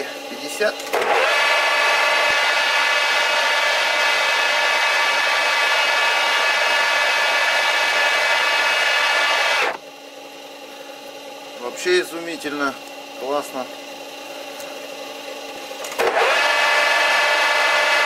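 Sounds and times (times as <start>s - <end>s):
lathe cutting whine: 0.0s - 18.0s
lathe spindle running: 0.0s - 18.0s.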